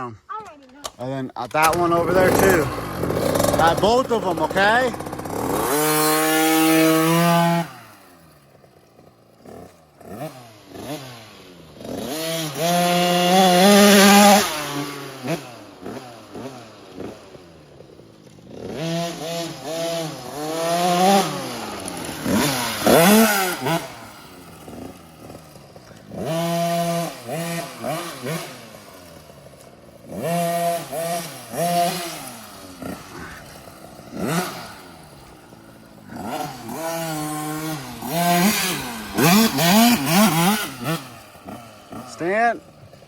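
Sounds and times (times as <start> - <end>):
two-stroke engine revving: 0.8 - 43.0.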